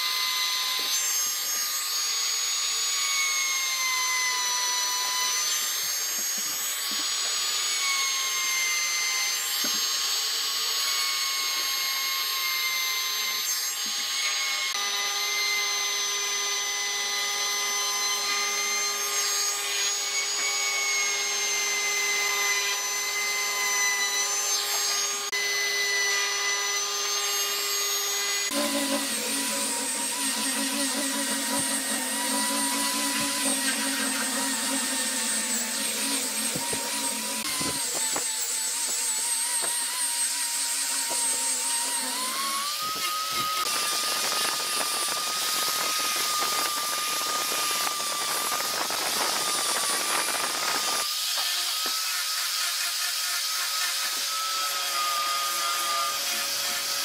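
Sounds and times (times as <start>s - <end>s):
angle grinder sanding wood: 0.0s - 57.0s
trim router routing wood: 0.0s - 57.0s.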